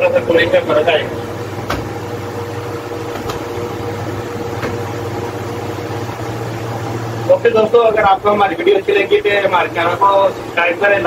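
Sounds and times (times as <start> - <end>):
air cooler fan humming: 0.0 - 11.0.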